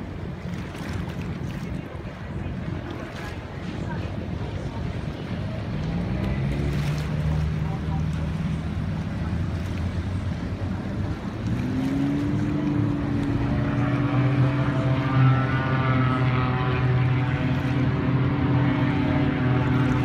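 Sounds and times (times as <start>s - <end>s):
propeller aeroplane engine drone: 0.0s - 20.0s
water noise: 0.0s - 20.0s
wind: 0.0s - 20.0s.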